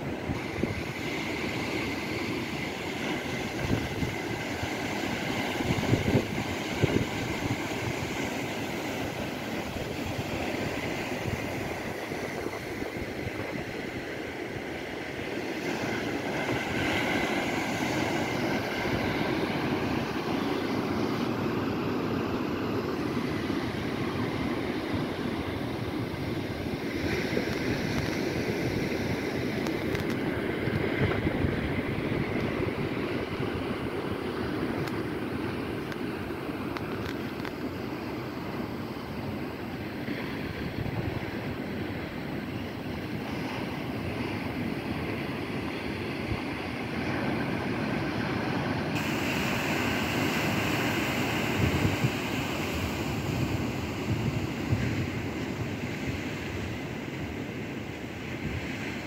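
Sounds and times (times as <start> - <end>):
wind buffeting microphone: 0.0 - 37.8, 39.8 - 59.0
sea waves breaking: 0.0 - 59.0.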